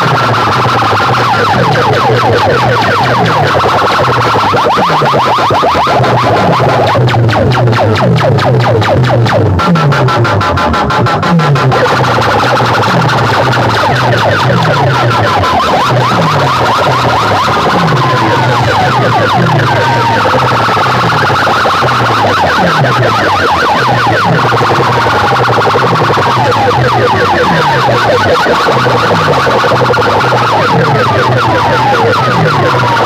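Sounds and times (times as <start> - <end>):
siren-like wailing sweeps: 0.0 - 10.2, 11.3 - 33.0
pulsing bass dropping in pitch: 0.0 - 33.0.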